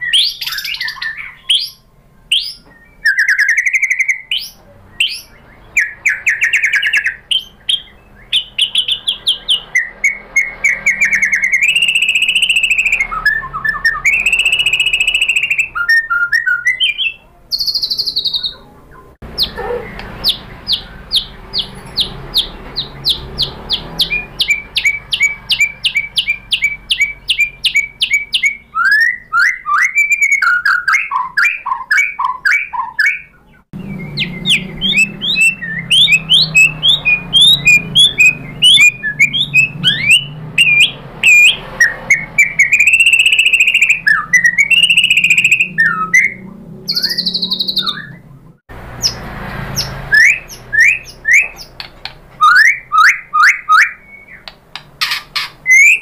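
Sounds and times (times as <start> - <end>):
bird rapid repeated notes: 0.0 - 18.5, 19.2 - 48.2, 49.0 - 56.0
bird singing whistled phrases: 0.0 - 48.4, 49.8 - 51.8, 52.4 - 54.6, 55.4 - 56.0.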